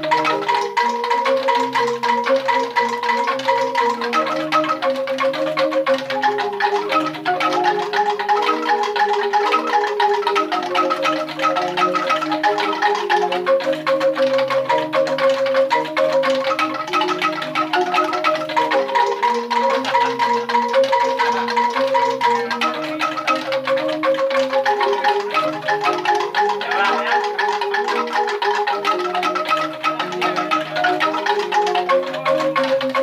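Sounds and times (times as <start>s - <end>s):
bamboo angklung rattling melody: 0.0s - 33.0s.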